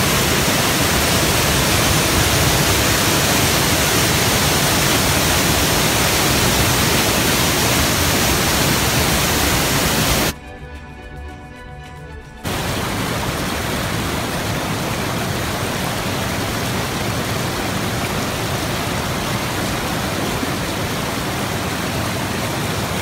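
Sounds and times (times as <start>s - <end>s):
waterfall roaring: 0.0s - 10.4s, 12.4s - 23.0s.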